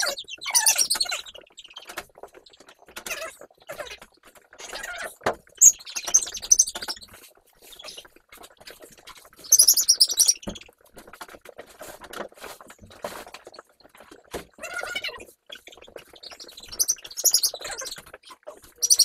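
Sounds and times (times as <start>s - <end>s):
rustling: 0.4s - 19.0s.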